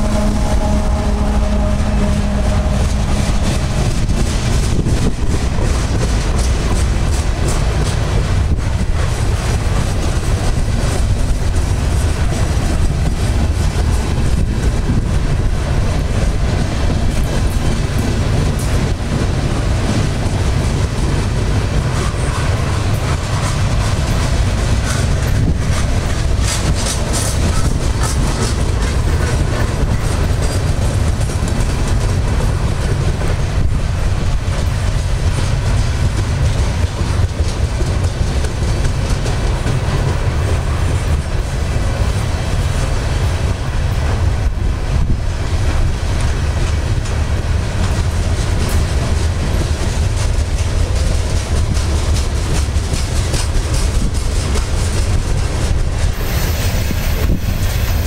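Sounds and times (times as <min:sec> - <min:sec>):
clickety-clack over rail joints: 0:00.0 - 0:58.0
train wheels rumbling on rail: 0:00.0 - 0:58.0.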